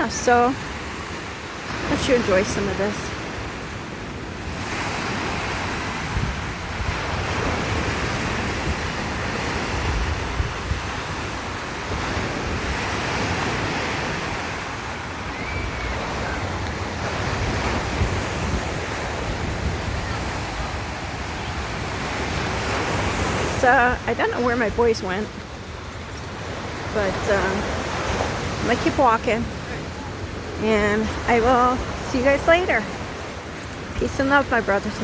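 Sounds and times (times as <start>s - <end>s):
waves washing onto shore: 0.0s - 35.0s
wind buffeting microphone: 0.0s - 35.0s.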